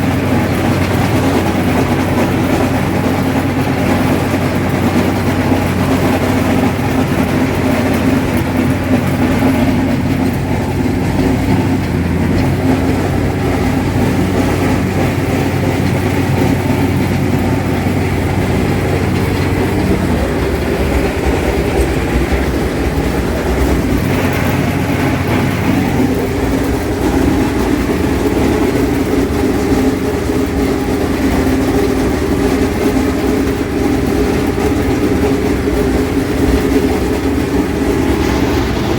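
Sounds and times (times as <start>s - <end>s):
haybine clattering: 0.0s - 38.9s
tractor diesel engine under load: 0.0s - 38.9s.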